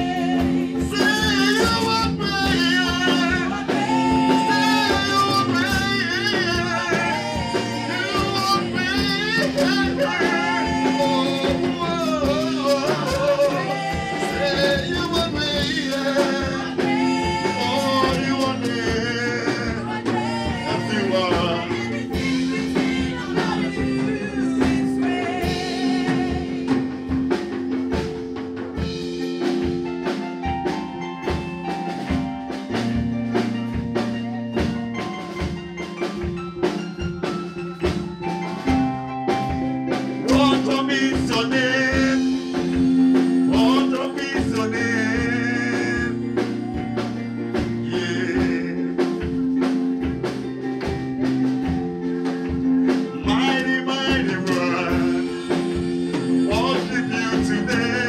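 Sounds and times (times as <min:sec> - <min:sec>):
group singing gospel song: 0:00.0 - 0:30.2, 0:39.3 - 0:58.0
band with drum kit: 0:00.0 - 0:58.0.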